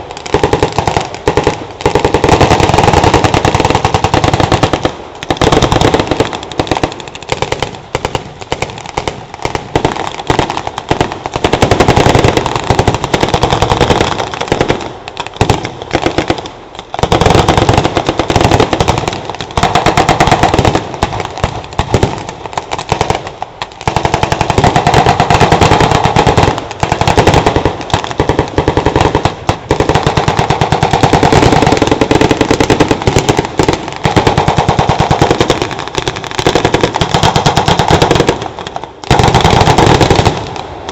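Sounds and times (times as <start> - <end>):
small-arms and machine-gun fire: 0.0 - 40.9.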